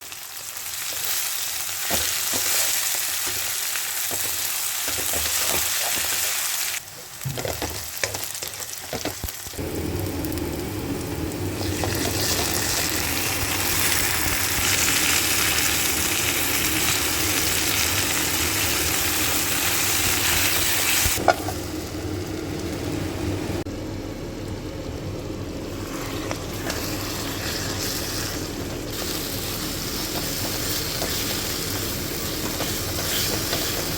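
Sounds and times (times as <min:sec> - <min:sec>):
food sizzling in hot oil: 0:00.0 - 0:23.4, 0:25.7 - 0:33.9.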